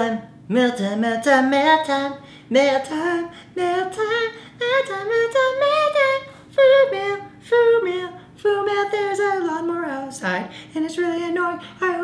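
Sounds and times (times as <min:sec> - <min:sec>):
faint low hum: 0:00.0 - 0:12.0
woman singing: 0:00.0 - 0:12.0.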